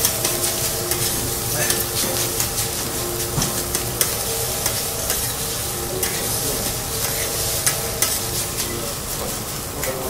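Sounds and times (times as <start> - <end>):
metal spatulas scraping and clicking: 0.0 - 10.0
rice sizzling on griddle: 0.0 - 10.0.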